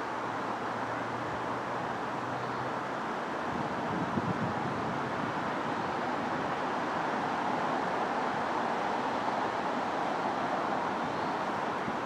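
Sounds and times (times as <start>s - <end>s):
distant road traffic rush: 0.0s - 12.0s.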